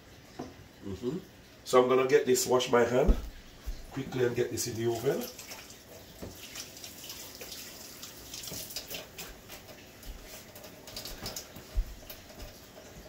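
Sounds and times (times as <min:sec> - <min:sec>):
hands washing at a sink: 0:01.7 - 0:13.0.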